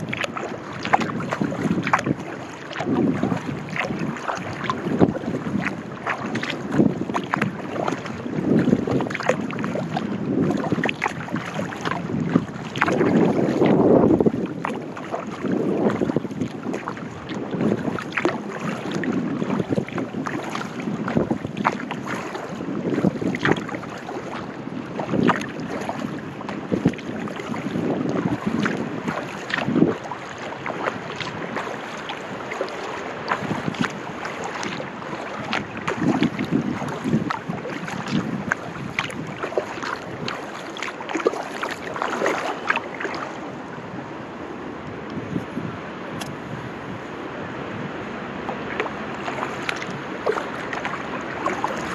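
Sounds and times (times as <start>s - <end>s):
water dripping from paddle: 0.0s - 13.7s, 14.4s - 24.4s, 25.0s - 26.2s, 26.8s - 43.2s, 48.5s - 51.9s
paddle strokes splashing in water: 0.0s - 51.9s
water lapping on hull: 0.0s - 51.9s
wind buffeting microphone: 0.0s - 51.9s.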